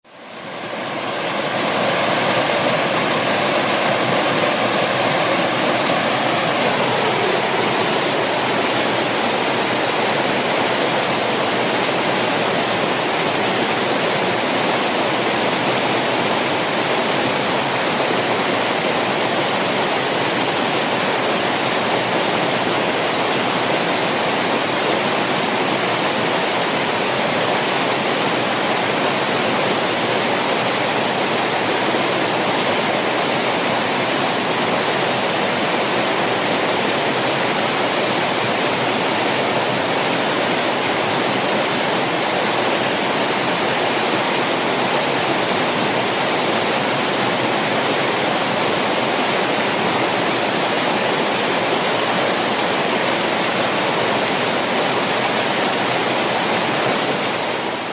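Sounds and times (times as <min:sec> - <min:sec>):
waterfall rushing: 0:00.1 - 0:57.9.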